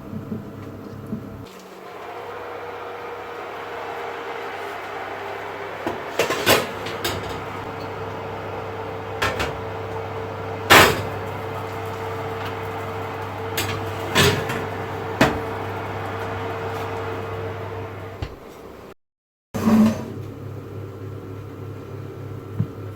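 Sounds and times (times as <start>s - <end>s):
household appliance humming: 0.0s - 18.9s.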